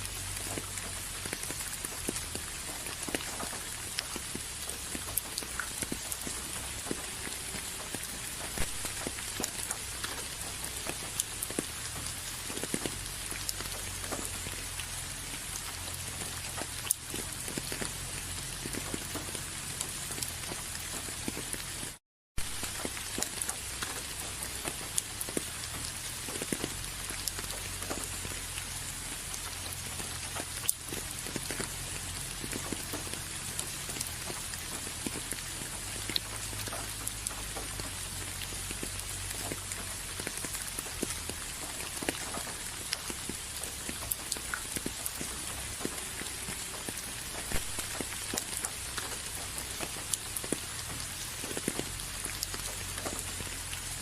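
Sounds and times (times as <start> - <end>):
raindrops ticking on a surface: 0.0 - 54.0
steady rain hiss: 0.0 - 54.0.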